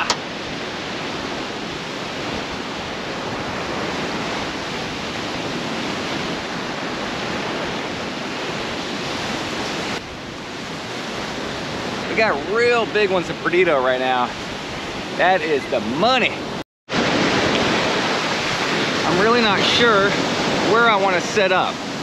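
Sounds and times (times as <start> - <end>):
surf washing onto beach: 0.0 - 22.0.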